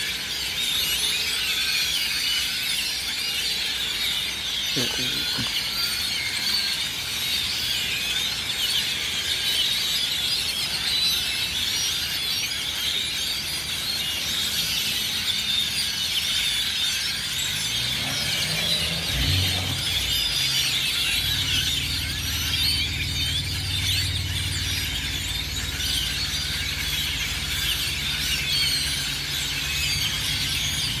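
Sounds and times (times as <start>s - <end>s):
flock of small birds calling: 0.0s - 31.0s.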